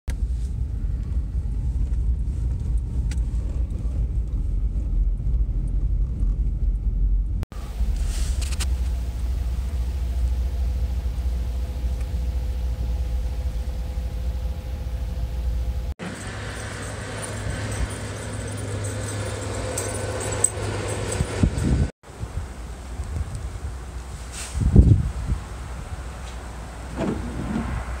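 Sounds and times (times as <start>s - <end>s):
wind buffeting a vehicle: 0.1s - 13.4s, 16.1s - 28.0s.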